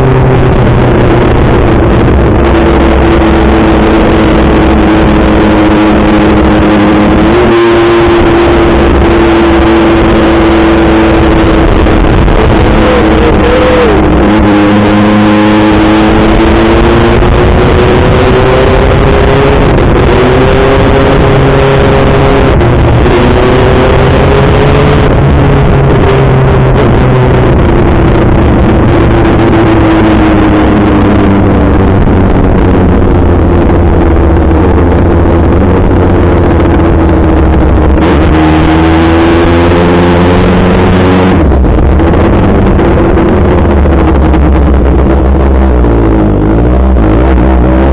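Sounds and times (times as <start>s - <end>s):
dense rushing noise: 0.0s - 47.9s
motorcycle engine running: 0.0s - 47.9s.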